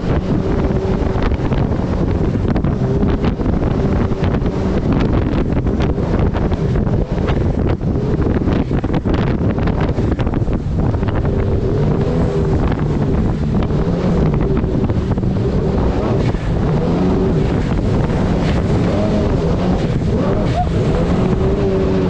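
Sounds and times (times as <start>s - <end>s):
jet boat engine running: 0.0s - 22.0s
rushing water: 0.0s - 22.0s
wind buffeting microphone: 0.0s - 22.0s.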